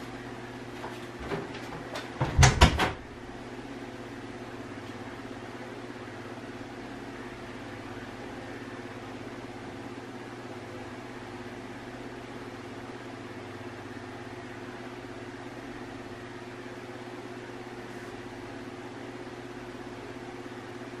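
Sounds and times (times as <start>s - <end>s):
low machine hum with hiss: 0.0s - 21.0s.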